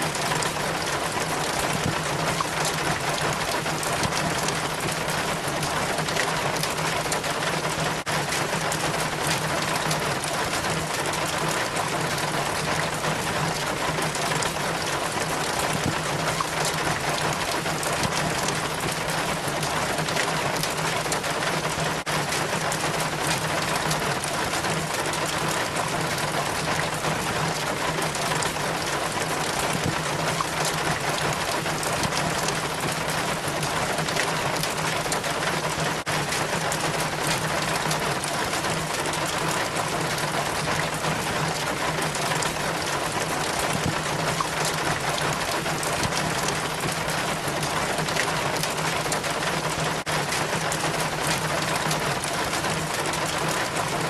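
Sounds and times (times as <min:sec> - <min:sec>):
rainwater trickling down rain chain: 0:00.0 - 0:54.0.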